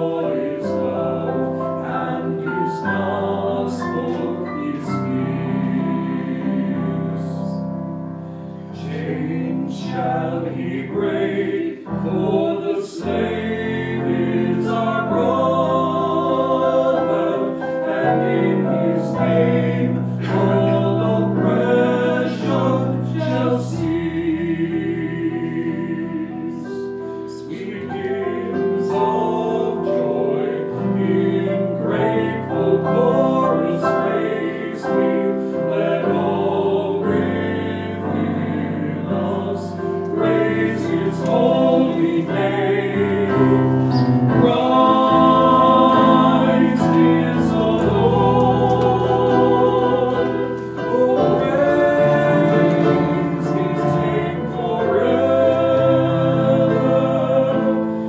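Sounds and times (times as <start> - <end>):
church choir singing in parts: 0.0 - 58.0.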